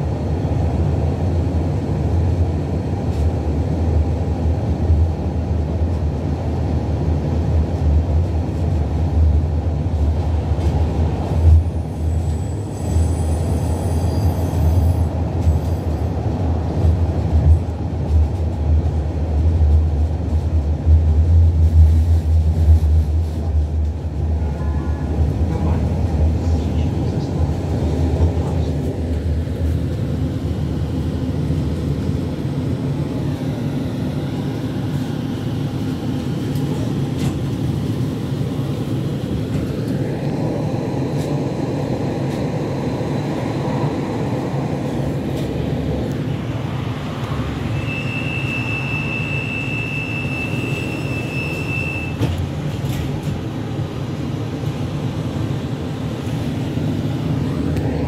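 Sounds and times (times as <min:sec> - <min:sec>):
tram running rumble: 0:00.0 - 0:58.0.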